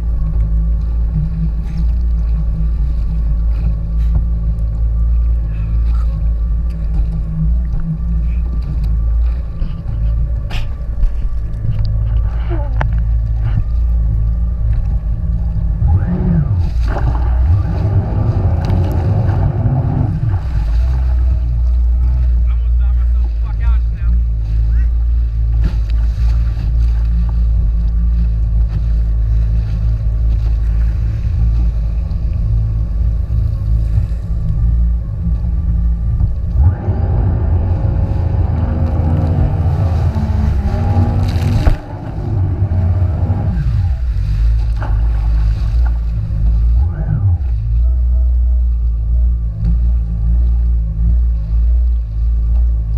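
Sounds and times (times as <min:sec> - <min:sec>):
jet ski engine rumble: 0:00.0 - 0:52.9
water noise: 0:00.0 - 0:52.9
wind noise: 0:00.0 - 0:52.9.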